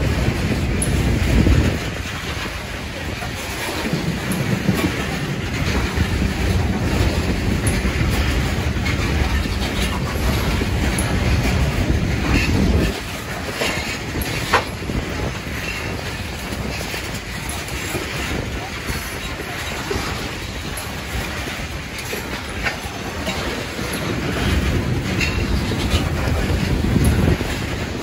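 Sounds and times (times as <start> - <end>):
train wheels rumbling on rail: 0.0 - 28.0
wheels and couplers clanking: 0.0 - 28.0.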